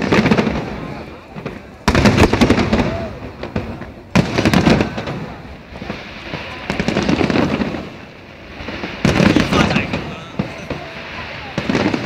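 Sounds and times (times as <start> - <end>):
firework crackling: 0.0 - 12.0
firework shells bursting: 0.0 - 12.0.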